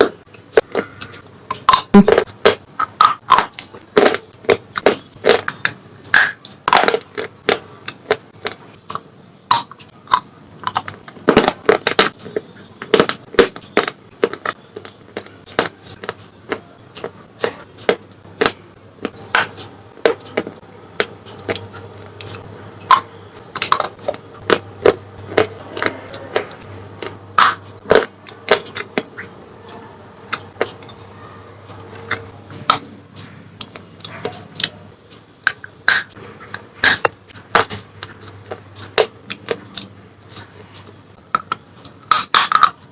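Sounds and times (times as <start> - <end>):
crunching and chewing: 0.0 - 42.9.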